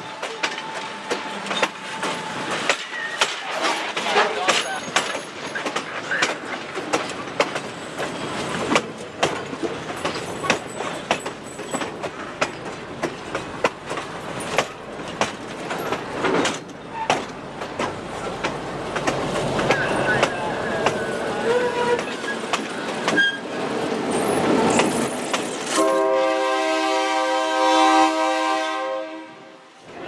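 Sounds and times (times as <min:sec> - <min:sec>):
train wheels clicking over rail joints: 0:00.0 - 0:25.9
diesel locomotive engine: 0:00.0 - 0:30.0.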